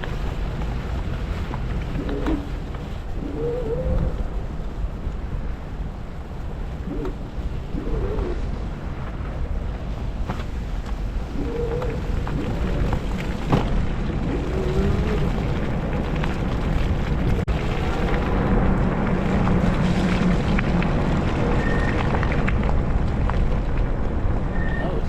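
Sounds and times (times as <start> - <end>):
road rumble: 0.0 - 25.0
wind buffeting microphone: 0.0 - 25.0.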